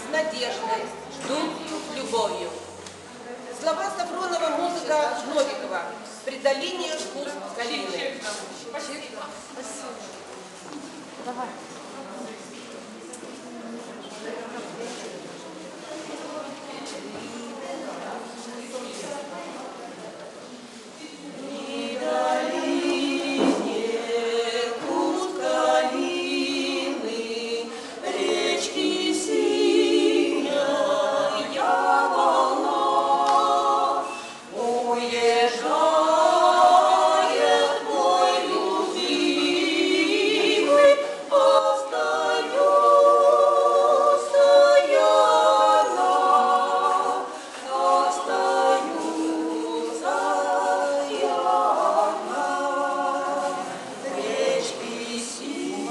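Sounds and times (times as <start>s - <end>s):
women singing a cappella: 0.0s - 10.1s, 16.1s - 19.2s, 20.8s - 55.9s.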